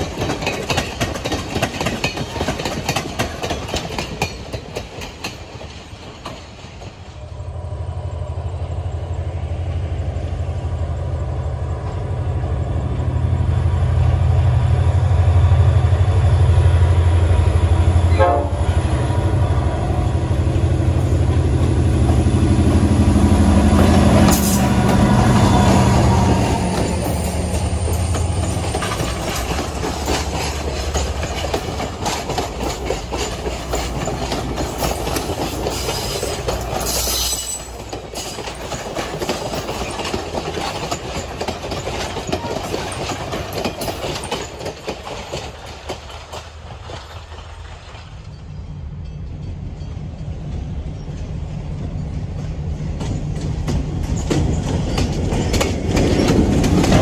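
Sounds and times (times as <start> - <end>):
train wheels clicking over rail joints: 0.0 - 7.8, 15.8 - 57.0
diesel locomotive engine hum: 0.0 - 57.0.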